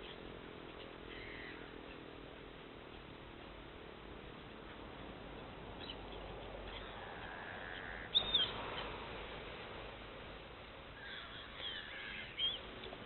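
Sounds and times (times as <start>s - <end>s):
birds chirping: 0.0s - 13.0s
steady outdoor hiss: 0.0s - 13.0s.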